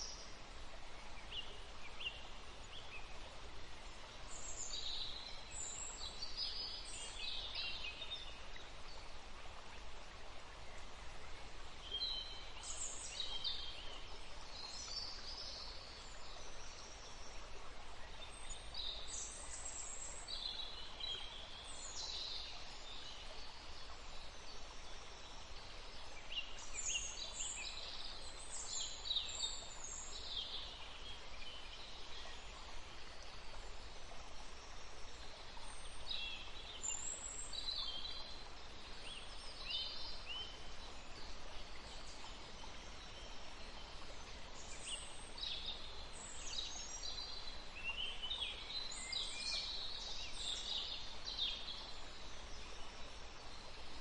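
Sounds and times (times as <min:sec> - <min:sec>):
forest stream rushing: 0:00.0 - 0:54.0
songbirds singing: 0:10.6 - 0:54.0.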